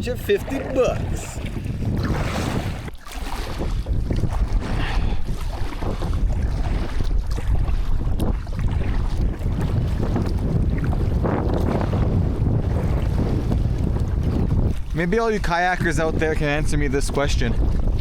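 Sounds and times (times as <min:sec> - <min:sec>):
wind gusting across microphone: 0:00.0 - 0:18.0.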